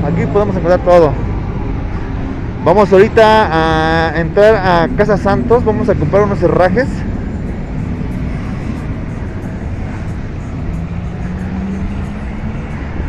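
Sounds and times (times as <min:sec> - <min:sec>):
low engine hum: 0:00.0 - 0:13.0
rumble of passing vehicles: 0:00.0 - 0:13.0.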